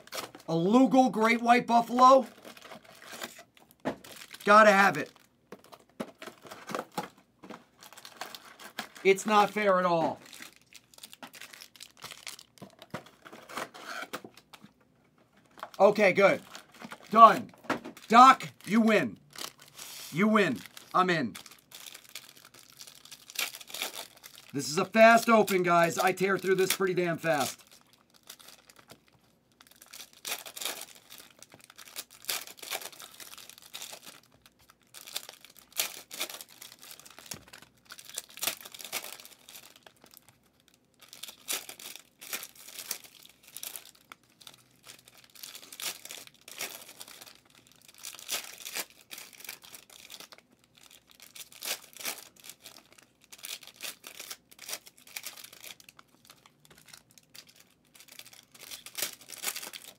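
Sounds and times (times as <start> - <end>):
wrappers tearing and crinkling: 0.0 - 14.8, 15.4 - 59.9.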